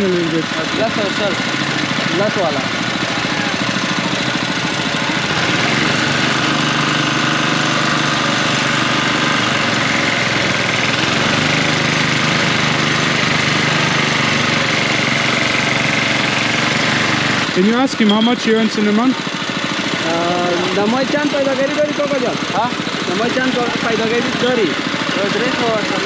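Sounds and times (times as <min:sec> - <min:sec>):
juice crushing machine drone: 0:00.0 - 0:26.0.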